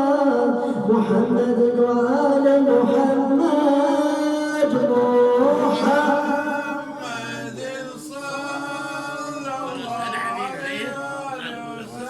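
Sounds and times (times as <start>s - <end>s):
man chanting: 0.2s - 12.0s.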